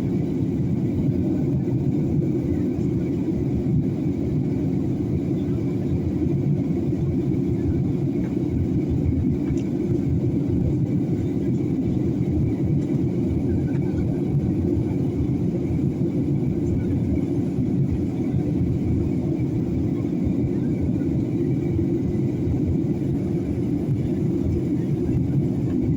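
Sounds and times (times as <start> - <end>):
airliner cabin engine rush: 0.0 - 25.9.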